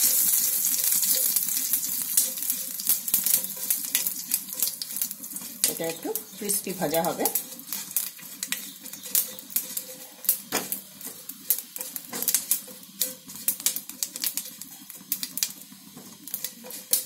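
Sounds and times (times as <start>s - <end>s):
seeds crackling and popping in oil: 0.0s - 17.0s
spatula stirring in pan: 0.0s - 17.0s.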